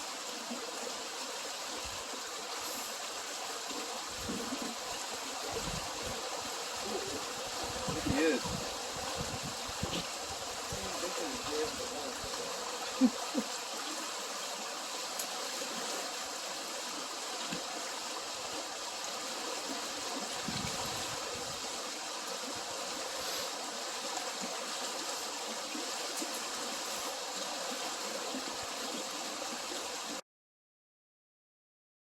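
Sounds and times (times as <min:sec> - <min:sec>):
river water rushing: 0:00.0 - 0:30.2.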